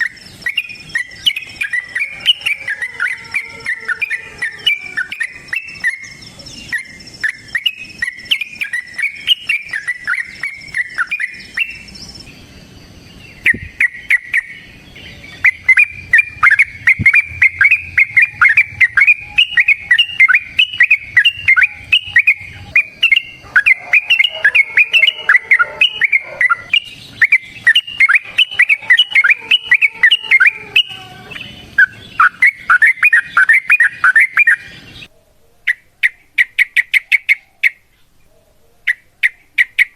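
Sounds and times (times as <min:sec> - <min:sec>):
bird singing chattering notes: 0:00.0 - 0:35.1.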